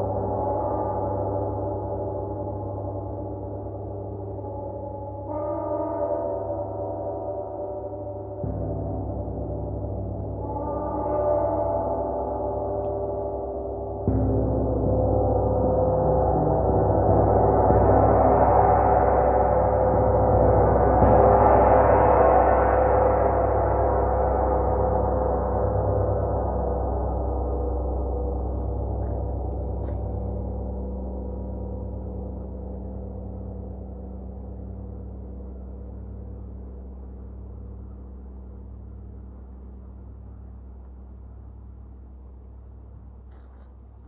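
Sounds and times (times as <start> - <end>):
large gong ringing: 0.0 - 40.1.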